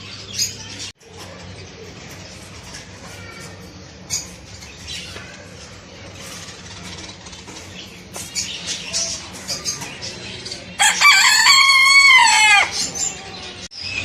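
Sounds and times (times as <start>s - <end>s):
caged birds chirping and squawking: 0.0s - 14.0s.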